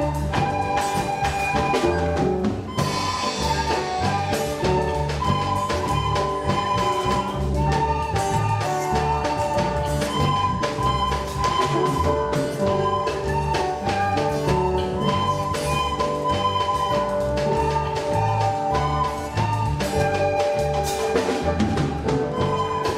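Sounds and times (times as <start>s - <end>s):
instrumental music with beat: 0.0s - 22.9s.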